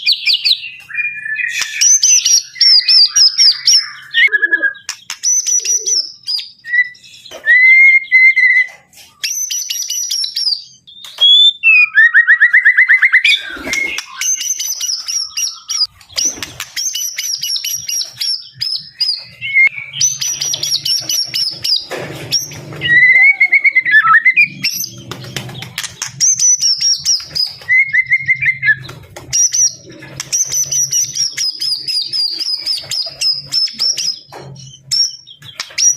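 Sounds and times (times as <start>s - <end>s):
songbird singing whistles and trills: 0.0s - 25.3s, 26.1s - 35.9s.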